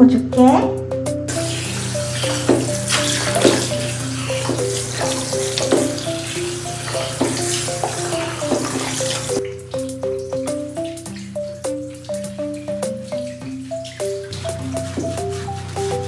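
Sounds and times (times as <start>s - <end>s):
shower head spraying water: 1.3s - 16.0s.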